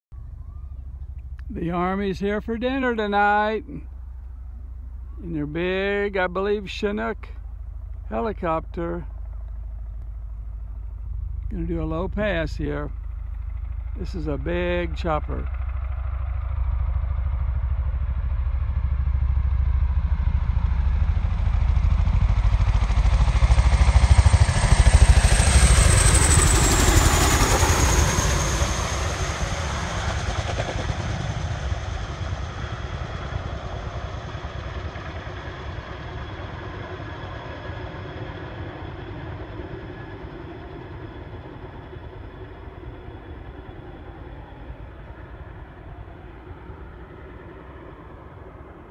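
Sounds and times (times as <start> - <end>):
high turbine whine: 0.1 - 48.9
helicopter rotor chop: 0.2 - 48.9.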